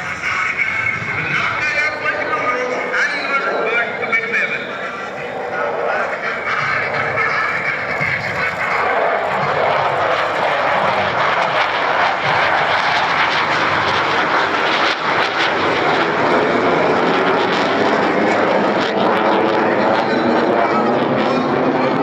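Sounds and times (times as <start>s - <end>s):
jet engine roaring: 0.0s - 22.0s.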